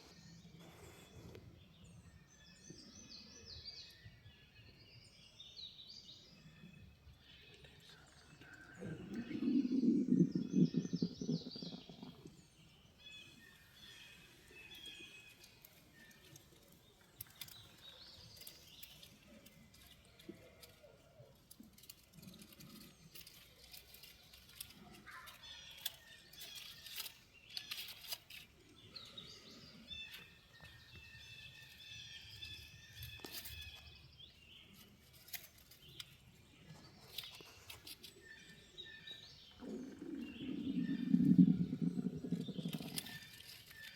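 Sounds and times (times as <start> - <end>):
songbirds chirping and trilling: 0.0 - 43.9
light ticks and rustles: 6.9 - 43.9.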